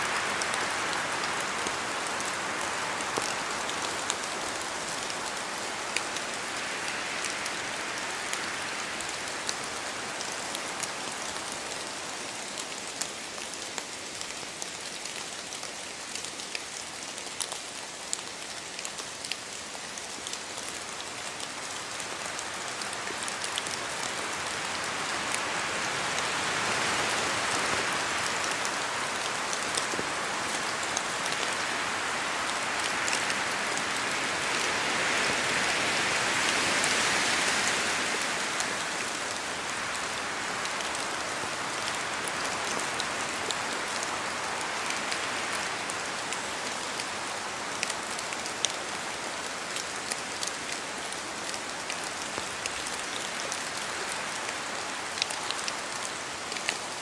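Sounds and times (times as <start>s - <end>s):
steady rain in forest: 0.0s - 57.0s.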